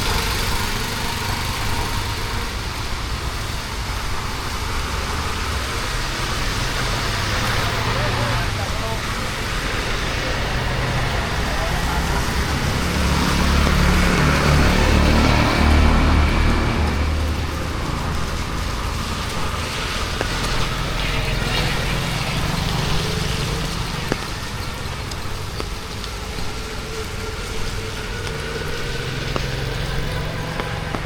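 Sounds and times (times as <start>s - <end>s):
traffic noise: 0.0s - 31.0s
vehicle engine rumbling: 0.0s - 31.0s.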